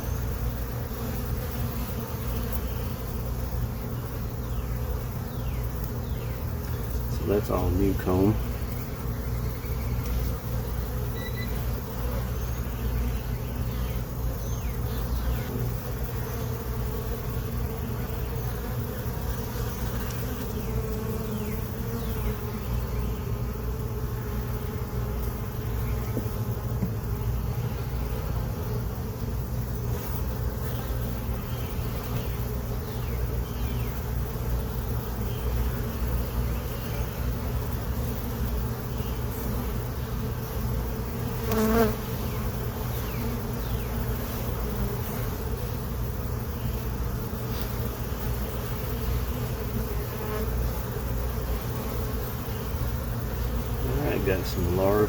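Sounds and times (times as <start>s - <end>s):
honey bees buzzing: 0.0s - 55.0s.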